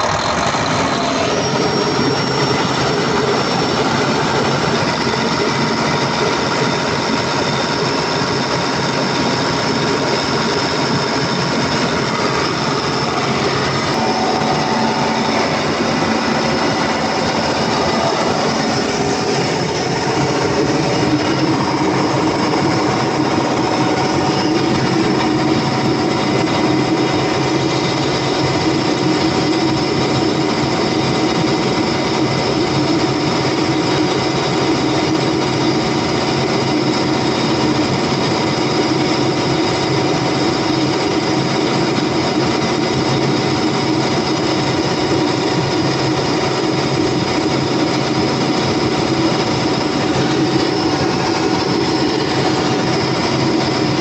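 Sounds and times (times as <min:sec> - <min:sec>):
diesel generator engine running: 0:00.0 - 0:54.0.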